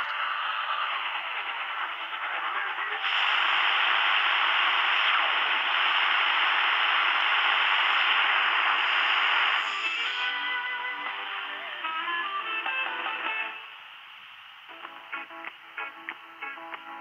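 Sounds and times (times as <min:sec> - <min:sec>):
shortwave radio static hiss: 0:00.0 - 0:17.0.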